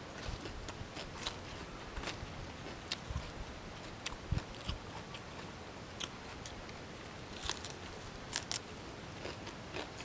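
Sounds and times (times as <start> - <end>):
person crunching raw vegetable: 0.2 - 6.6, 7.3 - 10.0.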